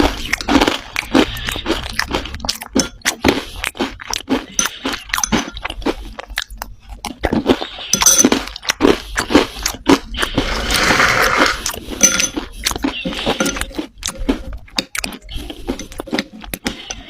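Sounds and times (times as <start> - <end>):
dry clay crunching: 0.0 - 17.0.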